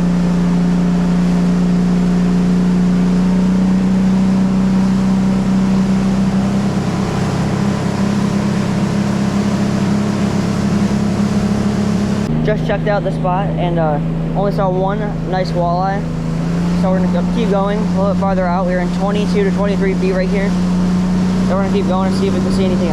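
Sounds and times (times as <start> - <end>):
boat motor droning: 0.0 - 22.9.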